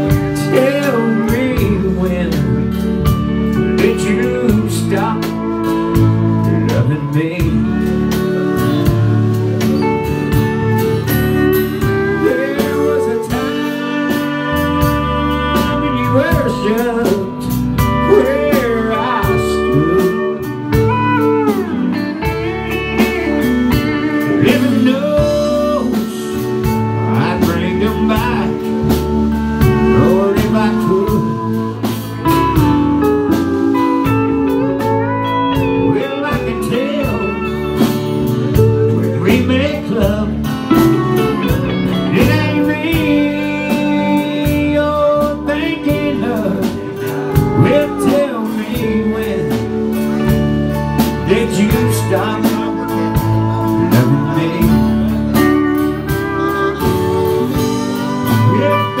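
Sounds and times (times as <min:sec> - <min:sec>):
bass guitar: 0:00.0 - 0:59.0
electric and acoustic guitar: 0:00.0 - 0:59.0
steady drum beat: 0:00.0 - 0:59.0
steel guitar gliding between notes: 0:00.0 - 0:59.0.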